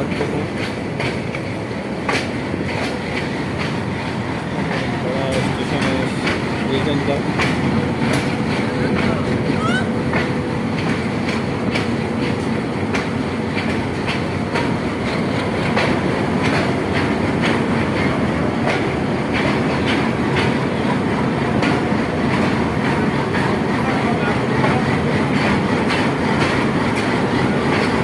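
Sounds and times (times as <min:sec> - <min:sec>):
train running rumble: 0:00.0 - 0:28.0
wheels clicking over rail joints: 0:00.0 - 0:28.0.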